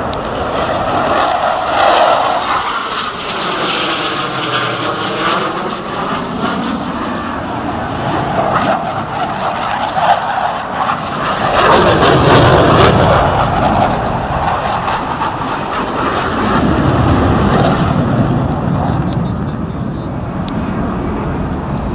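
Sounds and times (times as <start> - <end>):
jet aircraft roaring overhead: 0.0 - 21.9.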